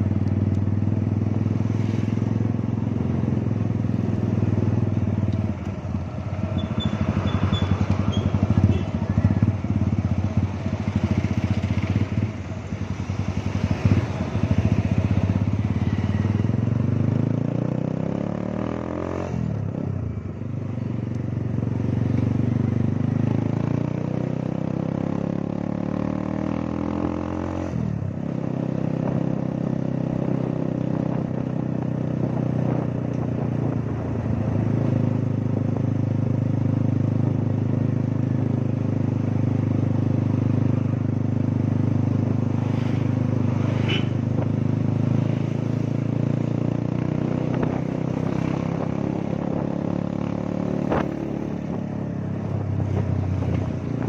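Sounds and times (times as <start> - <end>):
motorcycle engine running: 0.0 - 18.2, 28.0 - 54.0.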